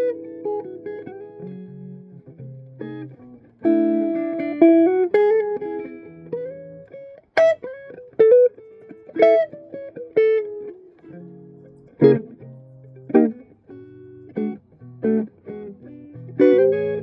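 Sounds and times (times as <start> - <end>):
clean electric guitar: 0.0 - 17.0.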